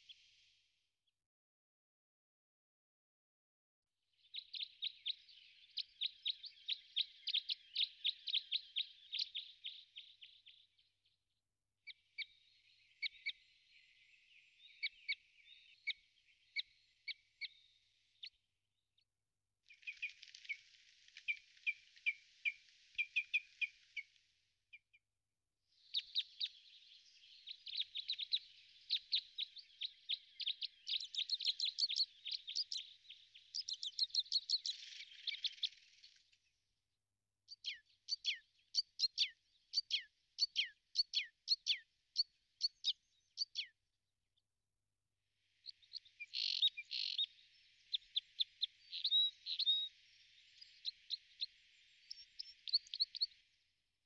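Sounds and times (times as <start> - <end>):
songbirds chirping and trilling: 4.1 - 18.5, 19.7 - 25.0, 25.7 - 36.6, 37.5 - 43.8, 45.4 - 53.8.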